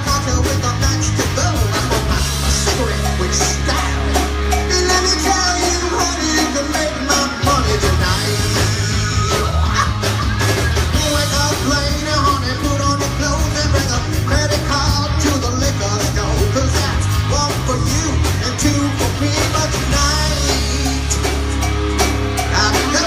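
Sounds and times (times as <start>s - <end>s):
shouted sung vocal: 0.0s - 21.4s, 22.4s - 23.0s
rock band playing live: 0.0s - 23.0s.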